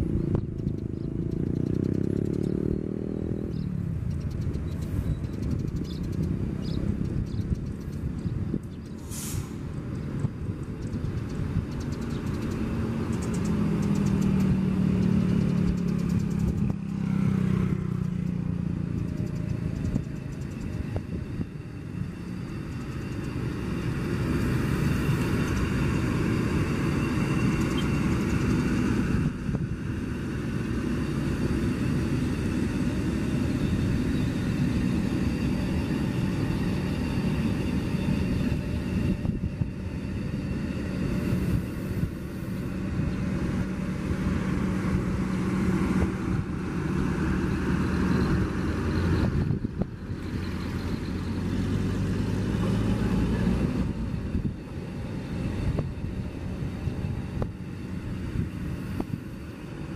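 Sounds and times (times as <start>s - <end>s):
low hum: 0.0s - 59.9s
train wheels rumbling: 0.0s - 59.9s.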